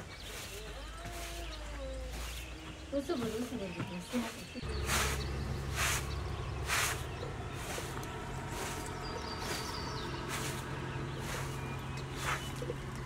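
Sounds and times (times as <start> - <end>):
broom sweeping carpet: 0.2 - 2.4, 4.2 - 12.7.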